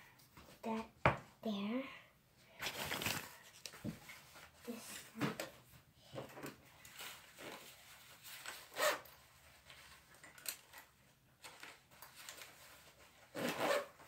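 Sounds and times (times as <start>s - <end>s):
rustles of objects handled: 2.5s - 14.0s.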